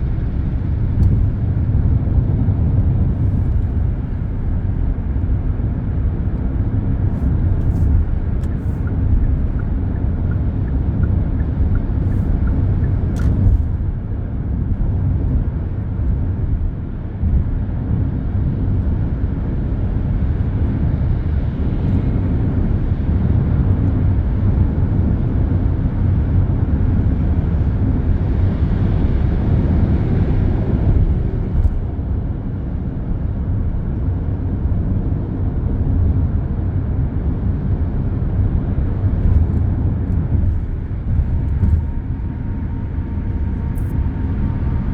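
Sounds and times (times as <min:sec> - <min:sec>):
traffic rumble: 0:00.0 - 0:44.9.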